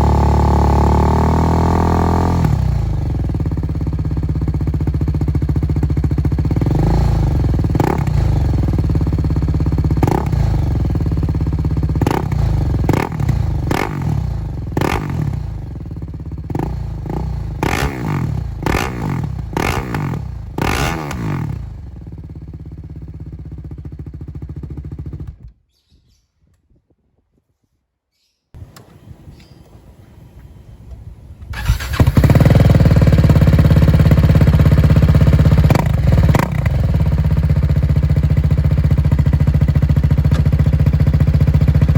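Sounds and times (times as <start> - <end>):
motorcycle engine revving and idling: 0.0 - 25.6, 31.4 - 41.9.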